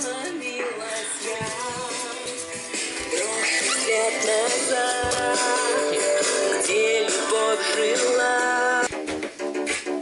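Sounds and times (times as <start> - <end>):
song with vocals guitar and beat: 0.0 - 10.0.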